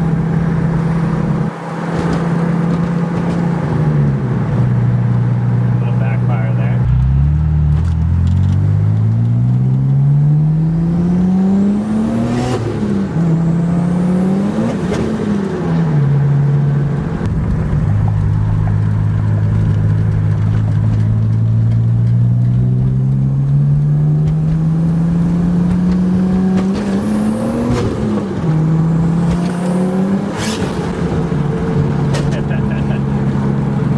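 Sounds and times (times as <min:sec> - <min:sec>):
car engine accelerating hard: 0:00.0 - 0:33.9.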